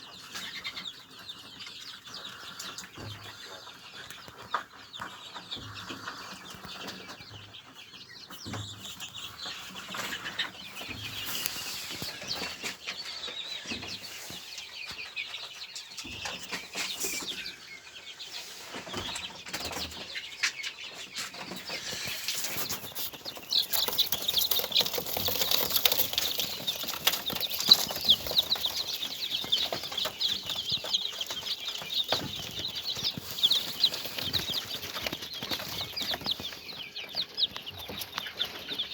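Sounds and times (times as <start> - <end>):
high chirping of many birds: 0.0 - 38.9
birds fluttering and rustling: 0.1 - 17.6, 18.4 - 38.9.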